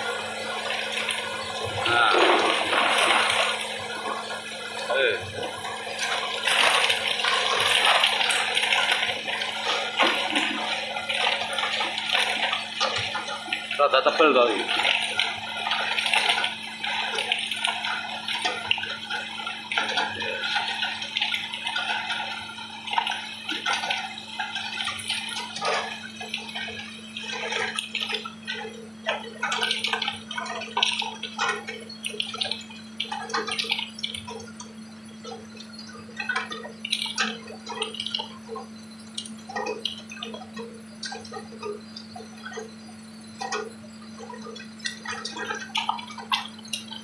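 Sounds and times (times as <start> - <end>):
ice machine humming: 0.0 - 47.0.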